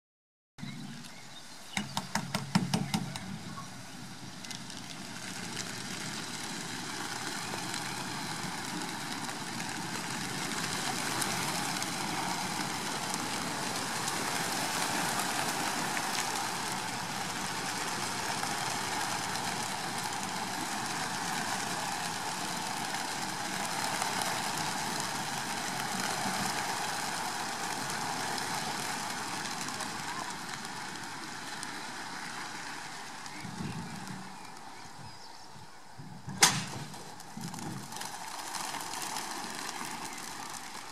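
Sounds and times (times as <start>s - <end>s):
pigeons wingbeats fluttering: 1.8s - 40.9s.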